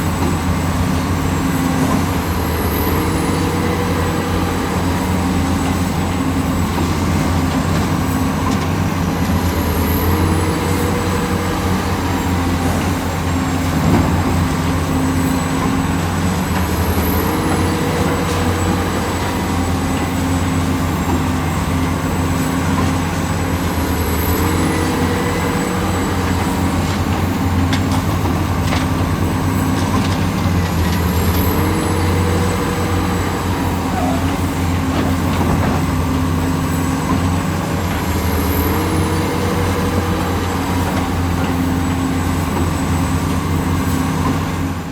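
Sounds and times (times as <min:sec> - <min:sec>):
heavy machine engine running: 0:00.0 - 0:44.9.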